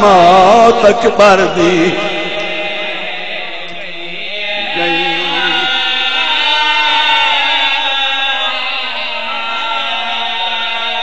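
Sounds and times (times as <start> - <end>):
voices chanting a lament: 0.0 - 11.0.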